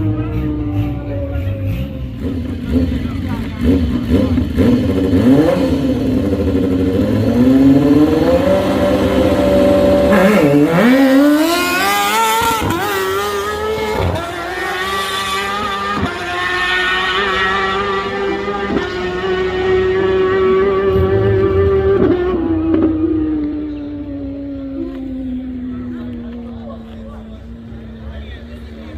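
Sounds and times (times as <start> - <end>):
race car engine accelerating: 0.0 - 28.9.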